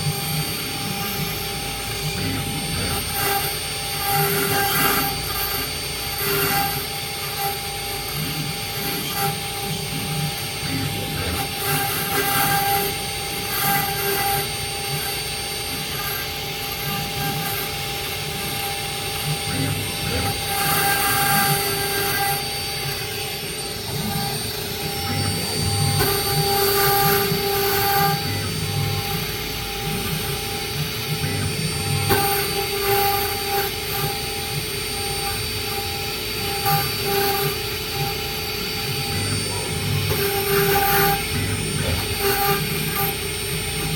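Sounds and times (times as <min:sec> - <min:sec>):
cnc router running: 0:00.0 - 0:43.9.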